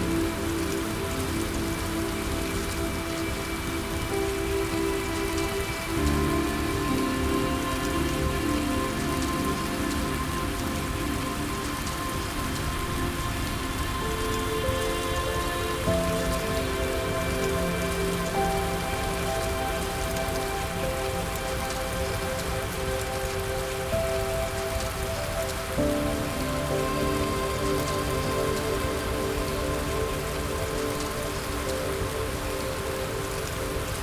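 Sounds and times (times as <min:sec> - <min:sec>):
rain falling: 0:00.0 - 0:34.0
soft sustained music chords: 0:00.0 - 0:34.0.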